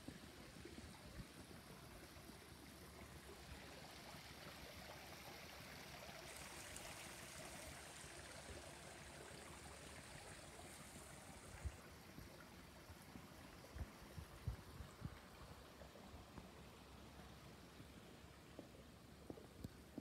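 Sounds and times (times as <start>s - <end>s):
trickle of running water: 0.0s - 20.0s.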